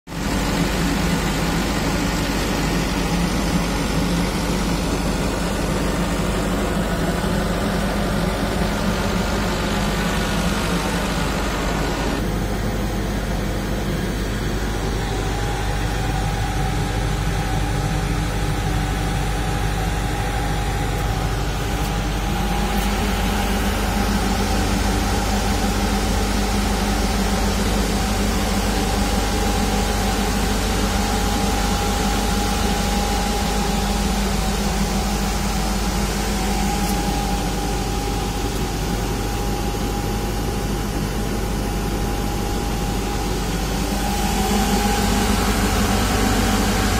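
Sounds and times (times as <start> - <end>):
diesel generator drone: 0.1 - 46.9
high-pitched whine: 0.1 - 46.9.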